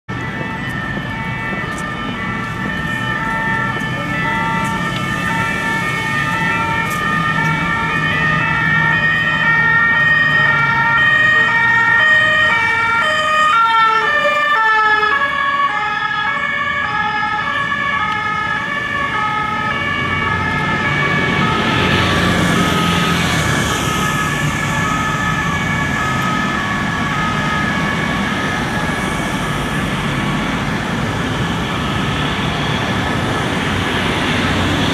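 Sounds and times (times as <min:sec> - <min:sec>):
traffic noise: 0:00.0 - 0:34.9
two-tone police siren: 0:00.1 - 0:34.9.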